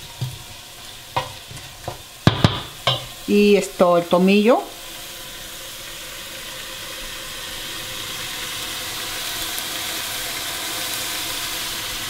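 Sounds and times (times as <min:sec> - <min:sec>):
meat and onion sizzling in oil: 0:00.0 - 0:12.0.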